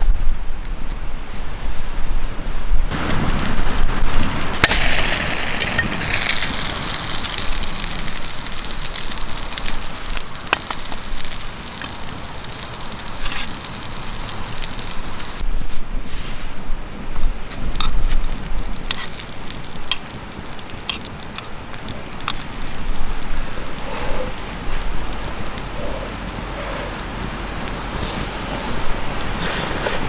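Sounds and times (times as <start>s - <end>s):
campfire crackling and popping: 2.9s - 15.6s, 16.9s - 30.0s.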